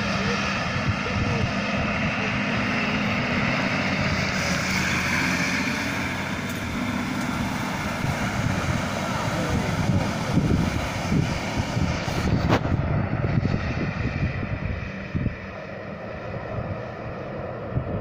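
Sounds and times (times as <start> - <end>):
truck engine running under load: 0.0 - 18.0.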